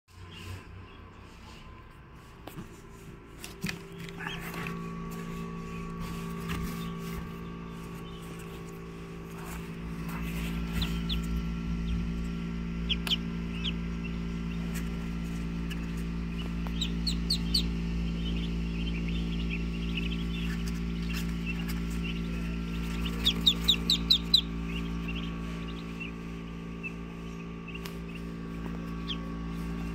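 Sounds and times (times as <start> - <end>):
ducklings peeping: 0.1 - 29.9
steady low hum: 0.1 - 29.9.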